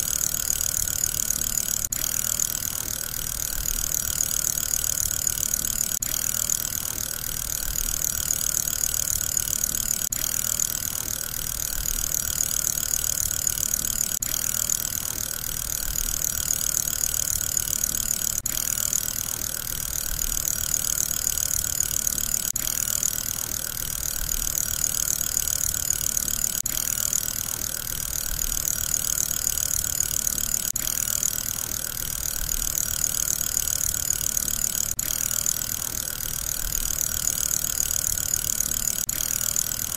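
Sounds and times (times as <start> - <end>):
mechanical whirring: 0.0 - 39.9.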